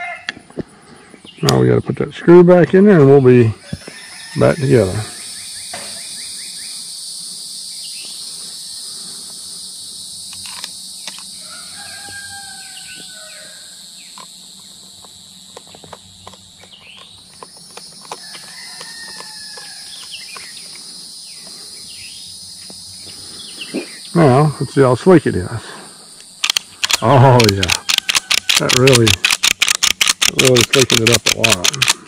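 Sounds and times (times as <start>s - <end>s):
high-pitched insect drone: 0.0s - 32.0s
bird calling: 3.1s - 32.0s.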